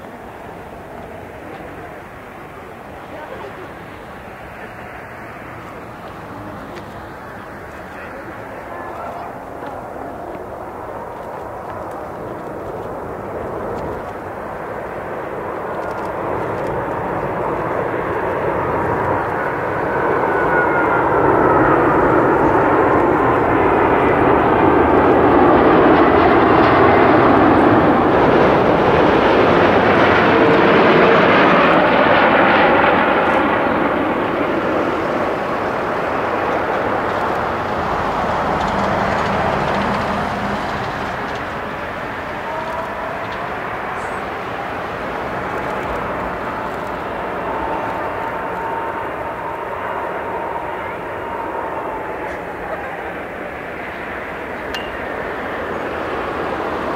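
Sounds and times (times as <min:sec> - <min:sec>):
jet airliner passing overhead: 0:00.0 - 0:56.9
jet engine whine falling in pitch: 0:00.0 - 0:56.9.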